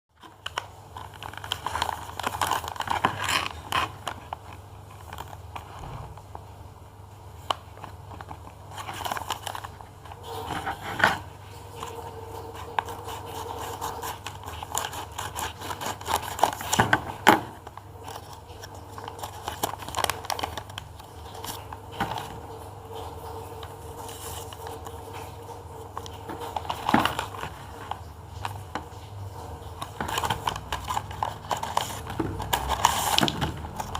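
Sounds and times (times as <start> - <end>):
wrapping crinkling and tearing: 0.2 - 6.4, 7.4 - 33.9.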